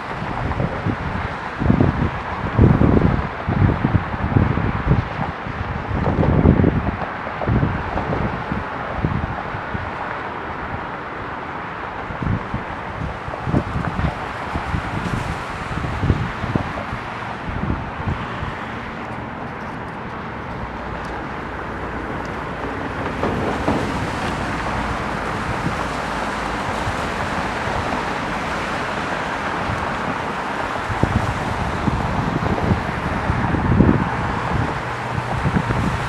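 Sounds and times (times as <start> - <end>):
airport and road traffic noise: 0.0 - 36.0
wind on microphone: 0.0 - 36.0.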